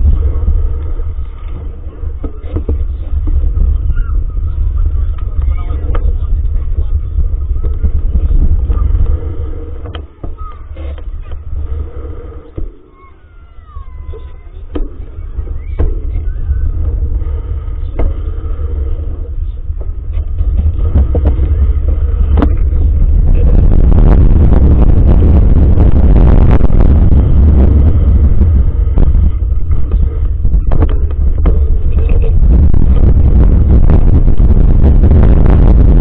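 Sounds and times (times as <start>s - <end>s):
road vibration rumbling: 0.0s - 36.0s
wind buffeting: 0.0s - 36.0s.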